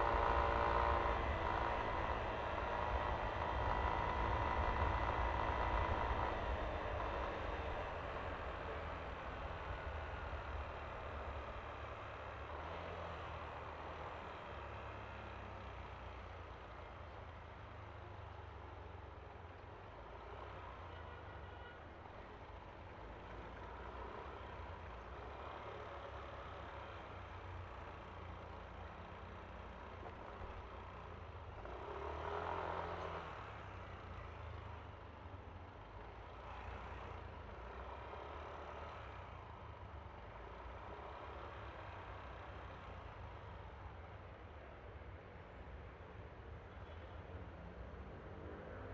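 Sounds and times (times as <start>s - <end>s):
scooter engine and road rumble: 0.0s - 48.9s.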